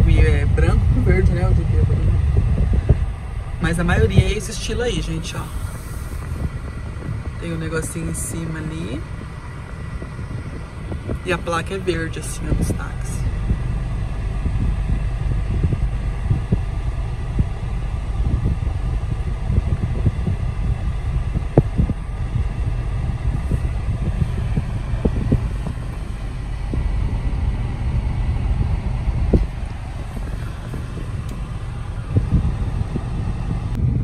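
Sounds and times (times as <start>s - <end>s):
car cabin rumble: 0.0s - 34.0s.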